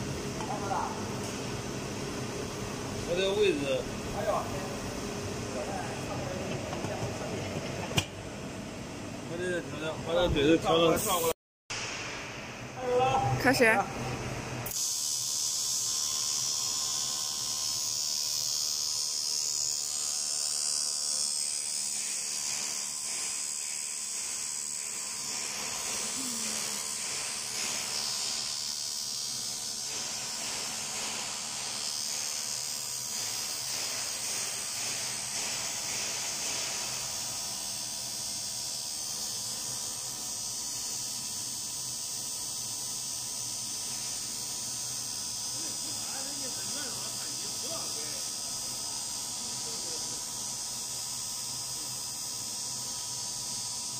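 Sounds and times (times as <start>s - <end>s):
welding arc buzzing hiss: 0.0s - 53.9s.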